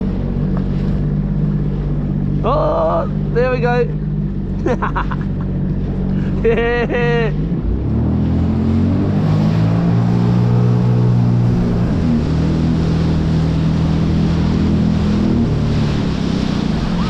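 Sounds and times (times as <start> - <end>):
motorboat engine running: 0.0 - 17.0
rushing water: 0.0 - 17.0
wind: 0.0 - 17.0.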